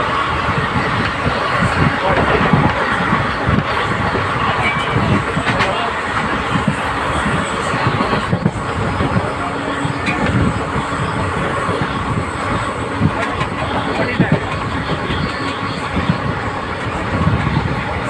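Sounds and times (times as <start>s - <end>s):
train wheels rumbling with knocks: 0.0s - 18.0s.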